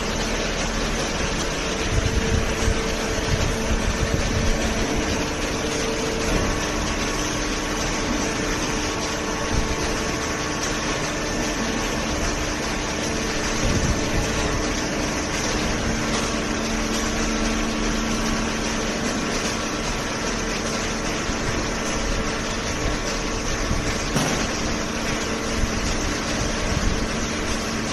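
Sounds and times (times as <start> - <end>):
hydraulic pump and motor hum: 0.0 - 27.9.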